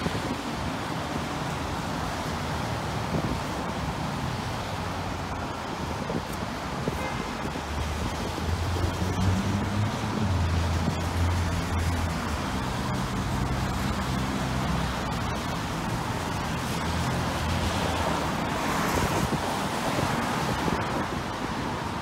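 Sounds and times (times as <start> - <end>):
passing vehicles: 0.0 - 22.0.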